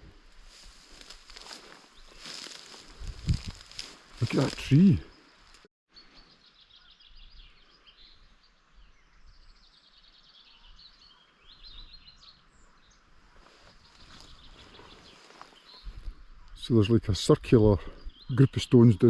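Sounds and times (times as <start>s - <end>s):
faint songbirds singing: 0.5s - 19.0s.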